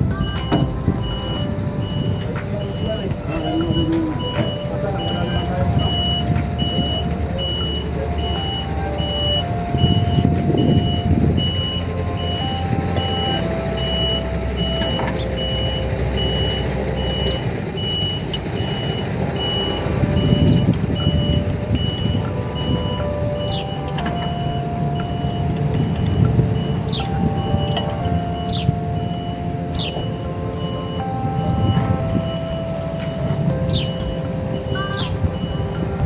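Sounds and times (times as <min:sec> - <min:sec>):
diesel engine running: 0:00.0 - 0:36.0
reversing alarm beeping: 0:00.0 - 0:36.0.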